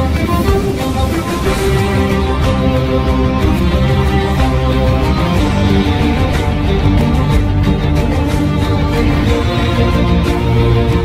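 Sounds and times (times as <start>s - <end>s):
theme music with held chords: 0.0s - 11.0s.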